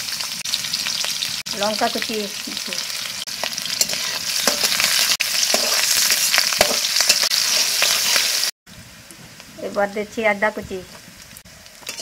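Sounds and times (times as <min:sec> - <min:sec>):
garlic and chillies sizzling in oil: 0:00.0 - 0:12.0.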